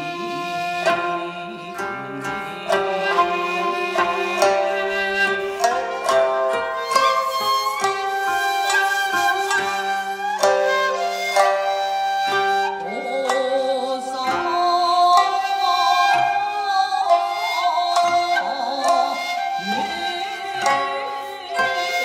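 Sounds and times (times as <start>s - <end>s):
bamboo flute held tones: 0.0s - 14.6s, 15.2s - 22.0s
plucked string instruments: 0.0s - 22.0s.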